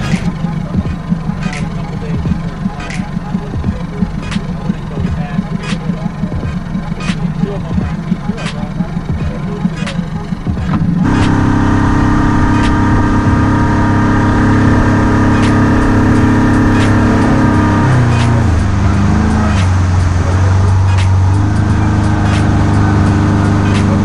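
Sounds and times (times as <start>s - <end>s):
motor engine running: 0.0s - 24.0s.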